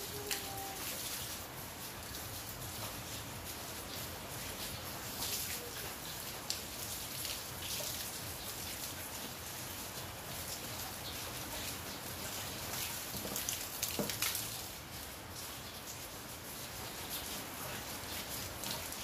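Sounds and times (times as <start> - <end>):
hose water splashing on patio: 0.0 - 19.0.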